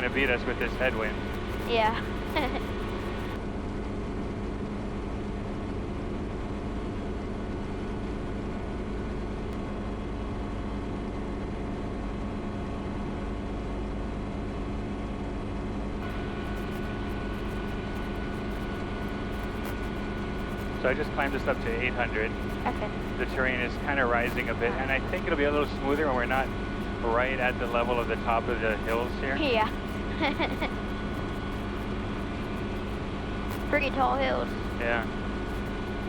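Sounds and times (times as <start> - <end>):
helicopter engine and rotors: 0.0 - 36.0.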